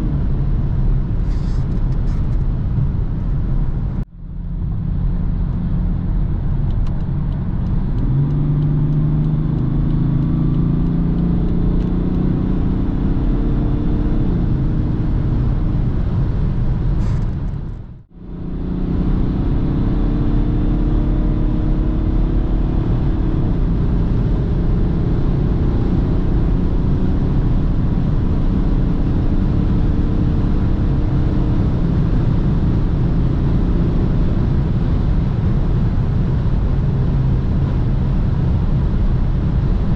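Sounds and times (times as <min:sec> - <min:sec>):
diesel car engine accelerating: 0:00.0 - 0:39.9
road rumble: 0:00.0 - 0:39.9.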